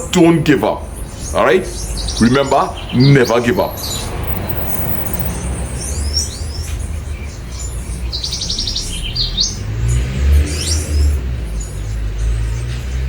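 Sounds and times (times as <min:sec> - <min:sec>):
bird trill: 0:00.0 - 0:12.8
wild birds chirping: 0:00.0 - 0:13.0.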